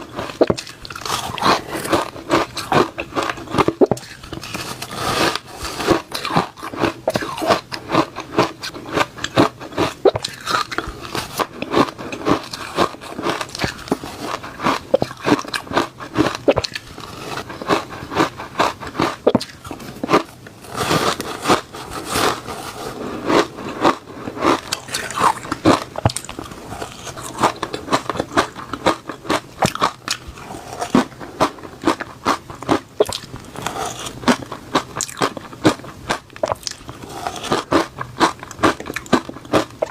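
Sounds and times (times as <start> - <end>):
person crunching shaved ice: 0.0 - 39.9.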